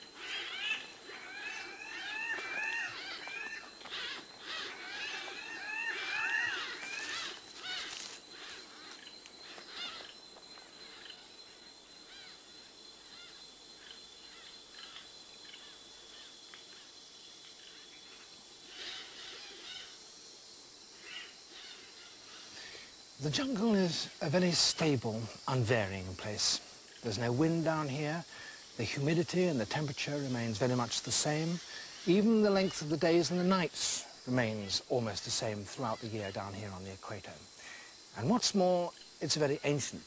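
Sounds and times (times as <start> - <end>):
birds chirping: 0.0 - 20.0, 21.0 - 40.0
insect drone: 0.0 - 40.0.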